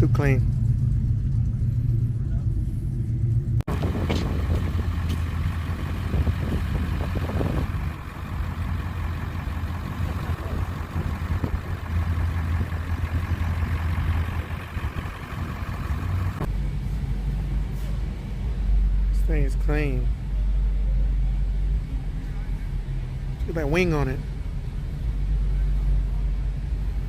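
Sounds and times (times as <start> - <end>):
outdoor background noise: 0.0 - 27.0
vehicle engine rumbling: 0.0 - 27.0.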